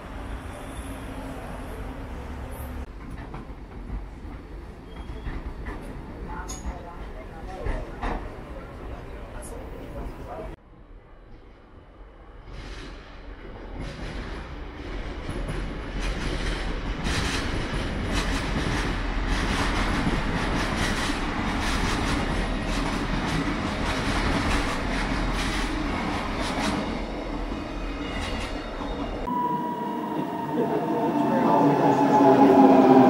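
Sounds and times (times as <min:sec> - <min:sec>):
passenger train rumbling on rails: 0:00.0 - 0:33.0.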